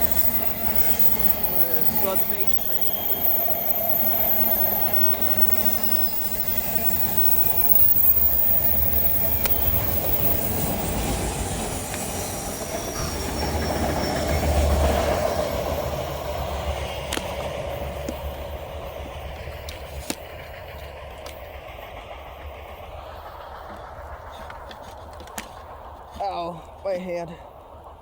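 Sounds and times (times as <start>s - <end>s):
high wheel squeal: 0.0s - 25.6s
freight train wheels rumbling: 0.0s - 28.0s.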